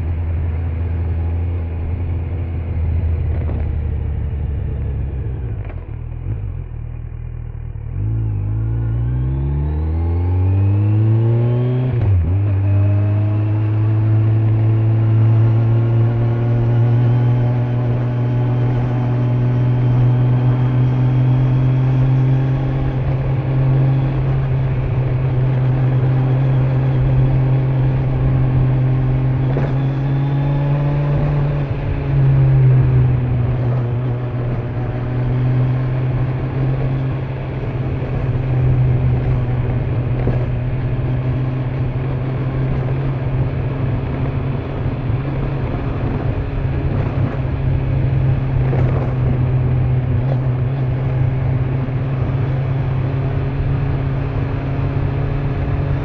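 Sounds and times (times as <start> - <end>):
motorcycle engine accelerating: 0.0 - 56.0
road noise: 0.0 - 56.0.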